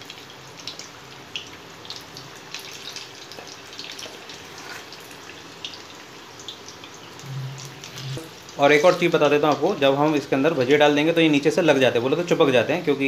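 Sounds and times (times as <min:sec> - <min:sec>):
fritters sizzling in hot oil: 0:00.0 - 0:12.4.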